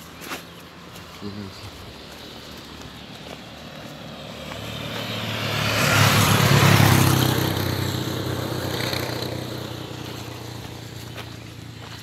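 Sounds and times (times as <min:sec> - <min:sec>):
vehicle driving past: 0:01.9 - 0:12.0.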